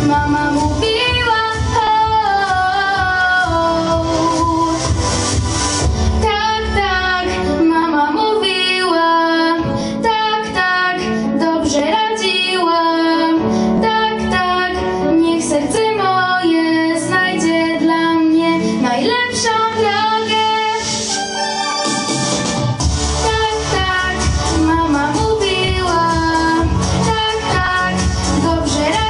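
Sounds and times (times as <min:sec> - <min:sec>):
boy singing into microphone: 0:00.0 - 0:04.9, 0:06.2 - 0:20.8, 0:23.3 - 0:29.0
instrumental accompaniment: 0:00.0 - 0:18.5, 0:19.3 - 0:29.0.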